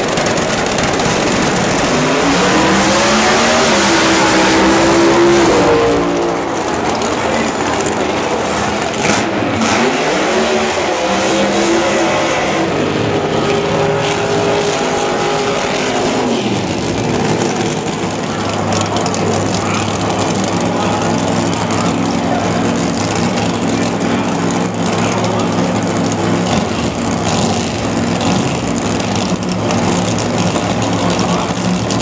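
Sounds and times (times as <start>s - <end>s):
racing car engines at full throttle: 0.0s - 32.0s.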